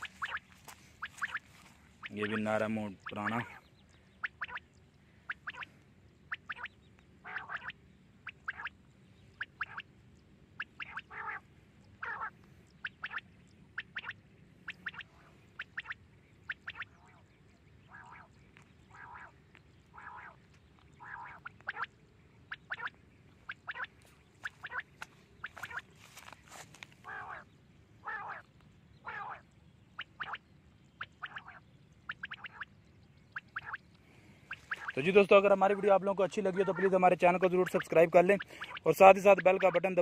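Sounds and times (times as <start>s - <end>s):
quail calling: 0.0s - 9.9s, 10.6s - 30.4s, 31.0s - 40.0s.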